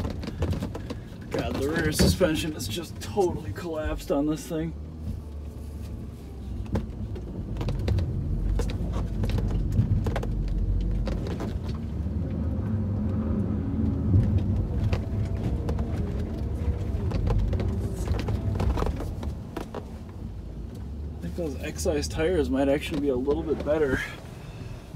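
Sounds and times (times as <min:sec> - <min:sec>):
engine and road rumble: 0:00.0 - 0:24.9.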